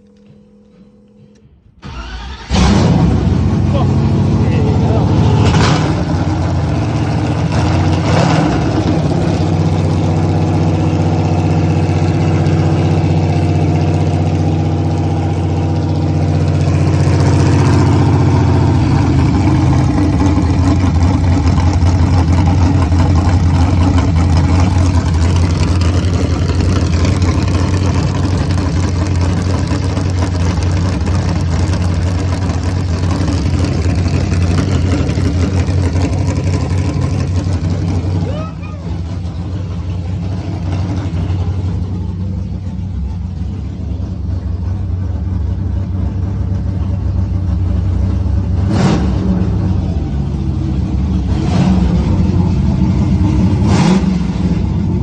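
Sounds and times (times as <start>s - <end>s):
engine running without exhaust: 0.0s - 55.0s.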